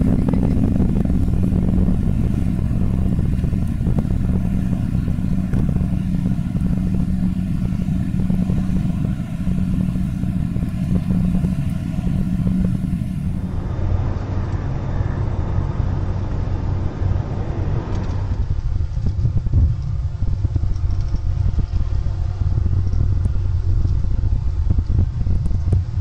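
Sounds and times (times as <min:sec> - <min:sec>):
high jet rushing: 0:00.0 - 0:25.2
jet engines low rumble: 0:00.0 - 0:26.0.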